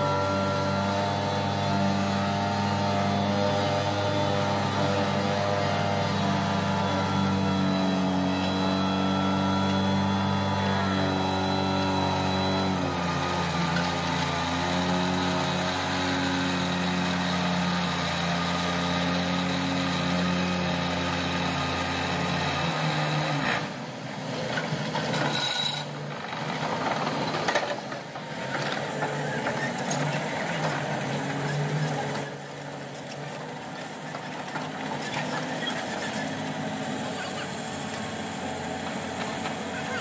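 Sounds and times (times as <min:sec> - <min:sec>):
excavator engines droning: 0:00.0 - 0:40.0.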